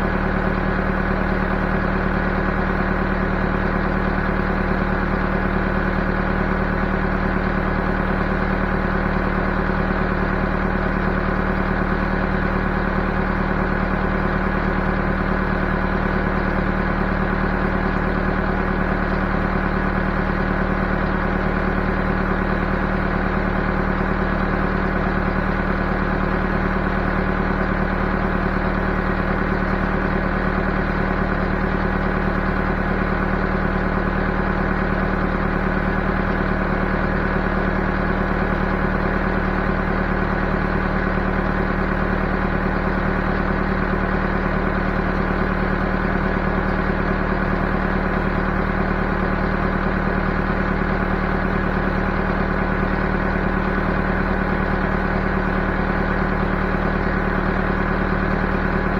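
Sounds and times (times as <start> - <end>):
backhoe engine running: 0.0 - 58.9.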